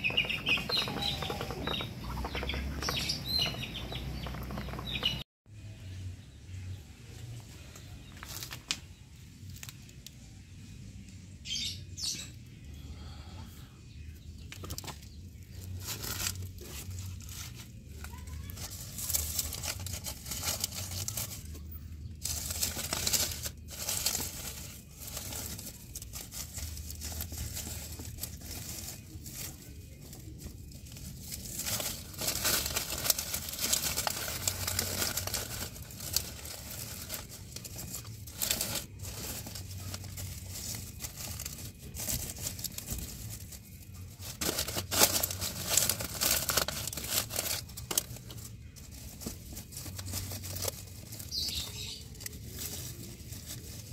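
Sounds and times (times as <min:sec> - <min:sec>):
dry leaves and sack rustling: 0:00.0 - 0:05.2, 0:07.8 - 0:09.9, 0:14.7 - 0:53.9.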